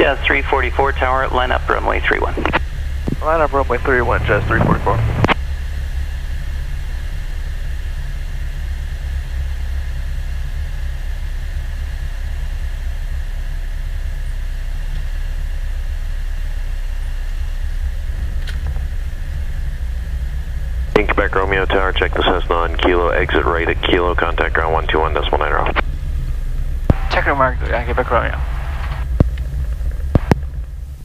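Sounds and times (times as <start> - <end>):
airplane engine drone in cabin: 0.0 - 31.0.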